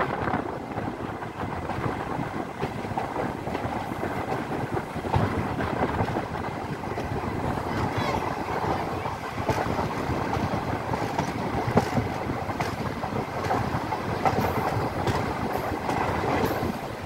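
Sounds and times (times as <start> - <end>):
train wheel and wind noise: 0.0 - 17.0.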